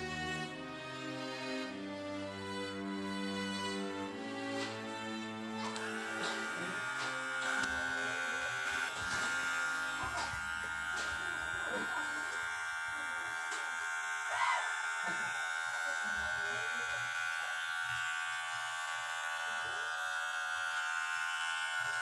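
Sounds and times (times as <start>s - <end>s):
hair clipper buzzing: 0.0s - 22.0s.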